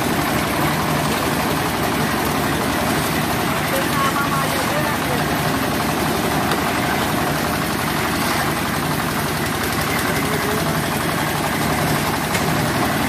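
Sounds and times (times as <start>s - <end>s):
concrete mixer engine drone: 0.0s - 13.0s.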